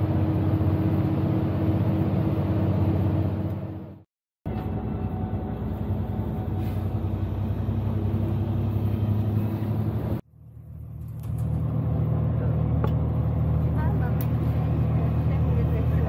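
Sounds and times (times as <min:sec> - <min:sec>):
bus engine humming: 0:00.0 - 0:16.0
road noise: 0:00.0 - 0:16.0.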